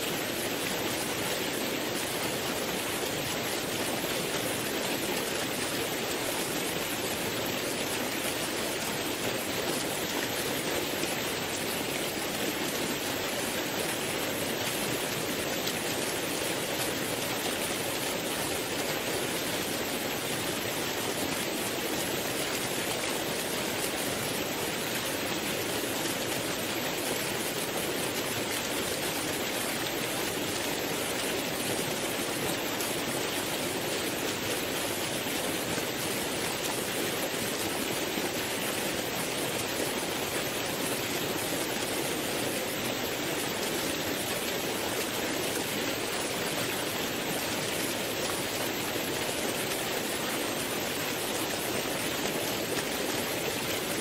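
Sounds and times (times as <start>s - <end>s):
waterfall and rapids rushing: 0.0s - 54.0s.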